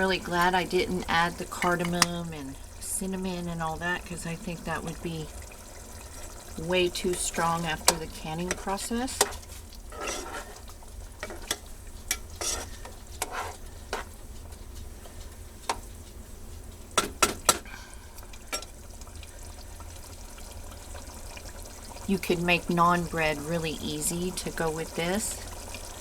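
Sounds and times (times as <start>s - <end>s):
faint sizzle: 0.0s - 26.0s.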